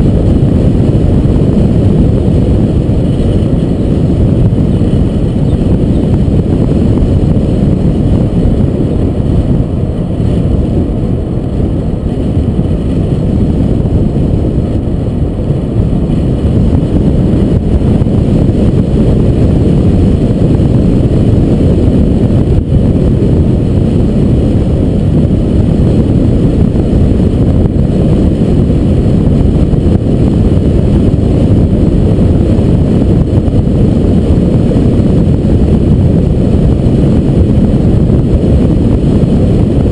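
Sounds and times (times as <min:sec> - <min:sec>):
car engine: 0:00.0 - 0:39.6
road and wind noise: 0:00.0 - 0:39.9.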